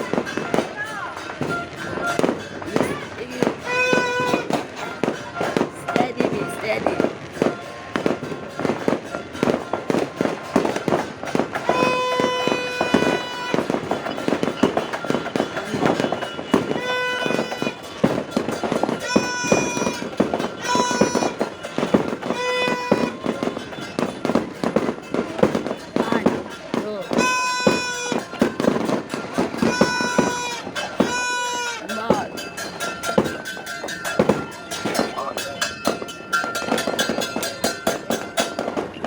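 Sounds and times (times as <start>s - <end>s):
horn sounding: 0.0s - 38.9s
firecrackers and fireworks banging: 0.0s - 39.0s.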